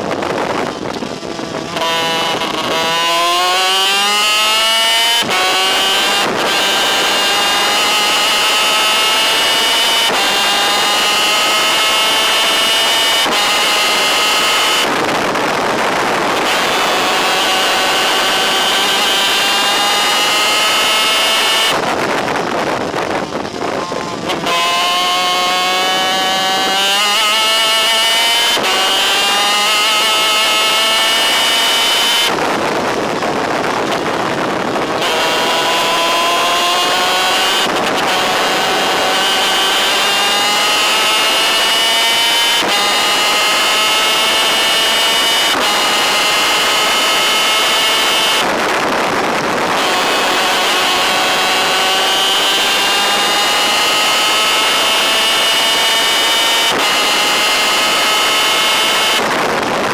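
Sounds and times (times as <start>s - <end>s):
two-stroke kart engine revving: 0.0s - 59.9s
wind noise: 0.0s - 59.9s.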